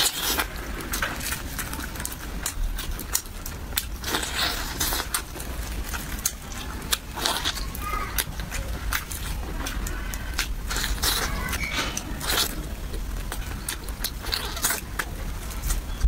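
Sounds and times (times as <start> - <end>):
chewing and smacking mouth sounds: 0.0 - 16.0
low steady hum: 0.0 - 16.0.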